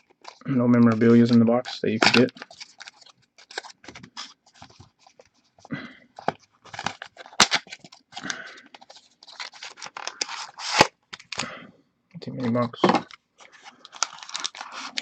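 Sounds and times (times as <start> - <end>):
wrapper crinkling: 0.0 - 11.5, 13.0 - 15.0.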